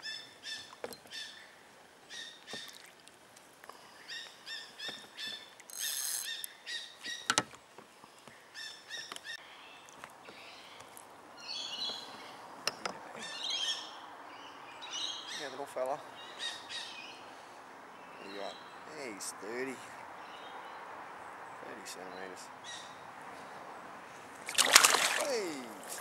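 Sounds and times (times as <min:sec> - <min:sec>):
birds chirping: 0:03.7 - 0:26.0.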